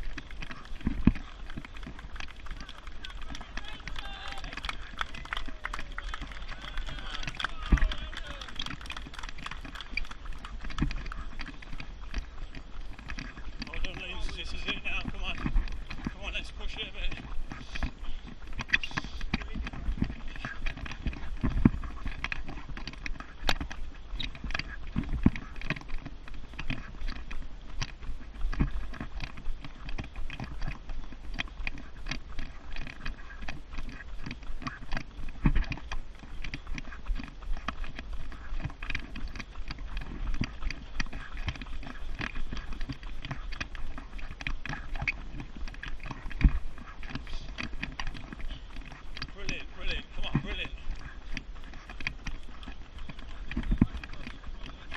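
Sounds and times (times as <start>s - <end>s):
stroller rattling: 0.0s - 54.9s
wheels rolling on pavement: 0.0s - 54.9s.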